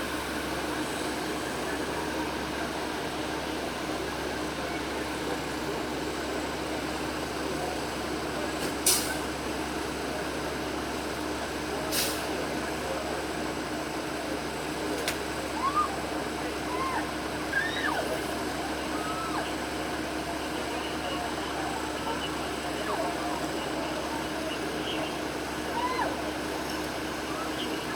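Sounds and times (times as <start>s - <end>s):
road traffic noise: 0.0s - 27.9s.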